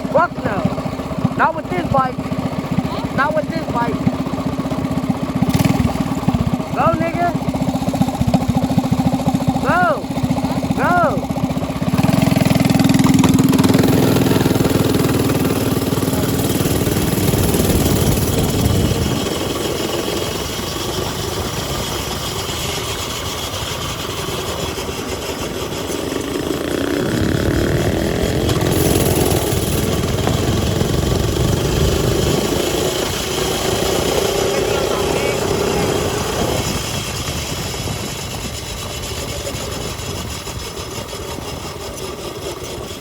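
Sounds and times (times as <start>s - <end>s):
small gas engine running: 0.0s - 43.0s.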